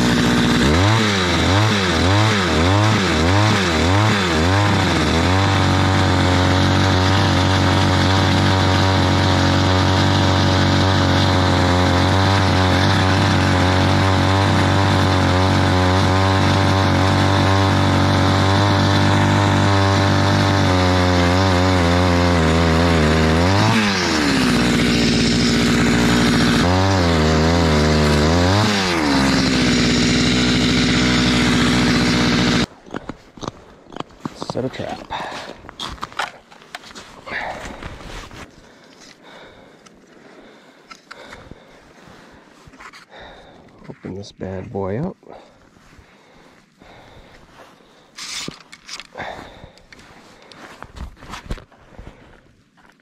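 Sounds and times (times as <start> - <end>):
ice auger engine running: 0.0 - 33.1, 33.9 - 38.0, 38.7 - 41.7, 42.8 - 44.0, 45.3 - 50.7.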